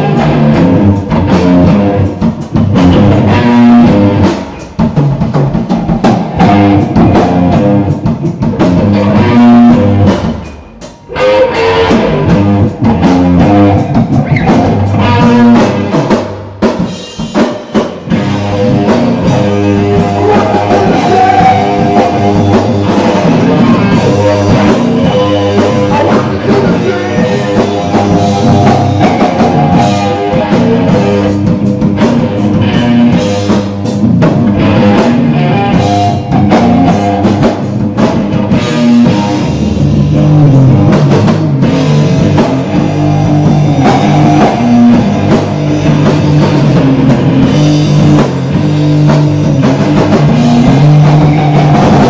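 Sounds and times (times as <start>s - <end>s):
hard rock band playing: 0.0s - 52.0s.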